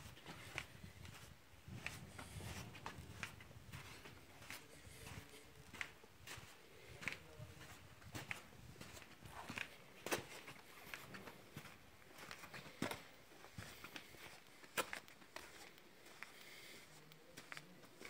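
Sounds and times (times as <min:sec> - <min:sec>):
faint footsteps on sand and grit: 0:00.0 - 0:18.0.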